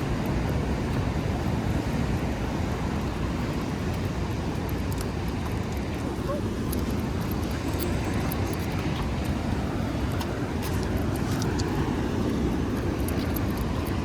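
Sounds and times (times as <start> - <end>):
faint light ticks: 0.1 - 6.0, 6.7 - 14.0.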